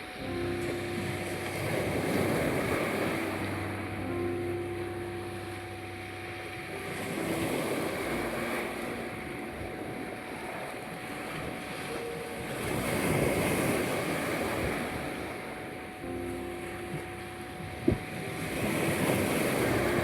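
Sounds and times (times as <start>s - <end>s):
faint soft music: 0.0s - 20.0s
sea waves washing onto shore: 0.0s - 20.0s
steady high tone: 0.0s - 20.0s.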